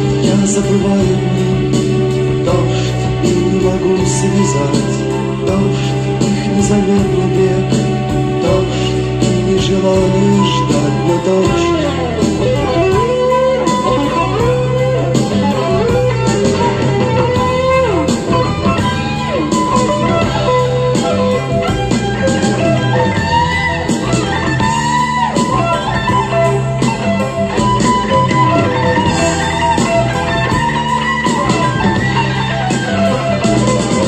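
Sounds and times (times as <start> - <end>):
electric guitar lead with bent notes: 0.0 - 34.0
steady rock beat: 0.0 - 34.0.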